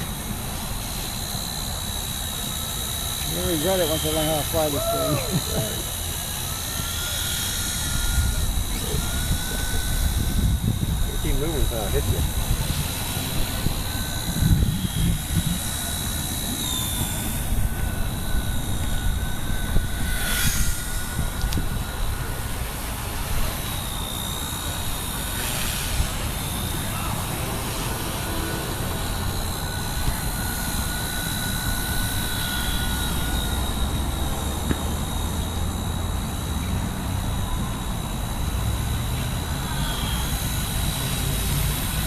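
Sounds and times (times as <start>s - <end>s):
rc helicopter rotor whine: 0.0s - 42.0s.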